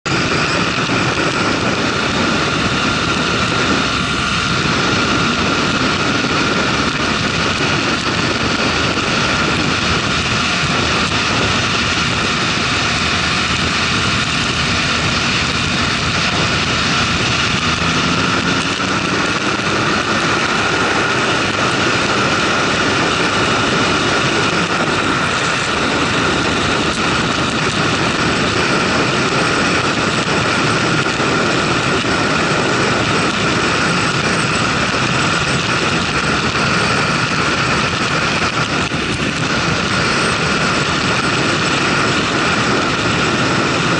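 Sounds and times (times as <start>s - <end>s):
motorcycle engine drone: 0.0s - 43.9s
wind rush on microphone: 0.0s - 43.9s.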